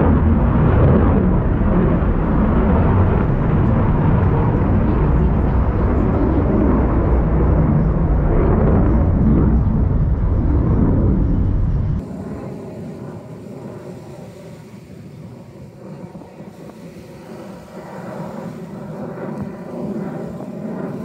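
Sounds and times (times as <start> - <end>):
distant jet noise: 0.0 - 21.0
jet engine low rumble: 0.0 - 21.0.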